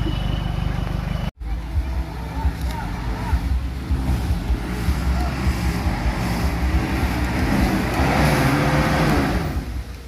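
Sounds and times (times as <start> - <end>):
off-road vehicle engine rumbling: 0.0 - 10.0.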